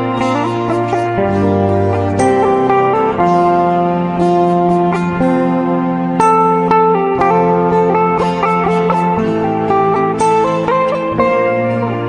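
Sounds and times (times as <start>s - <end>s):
instrumental music long held notes: 0.0s - 12.0s.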